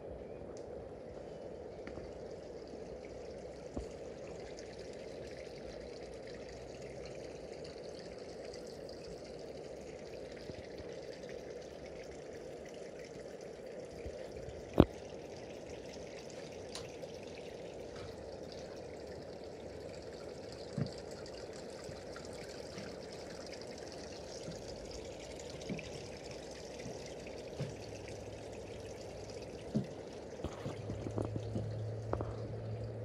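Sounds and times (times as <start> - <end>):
water trickling into pond: 0.0 - 33.0.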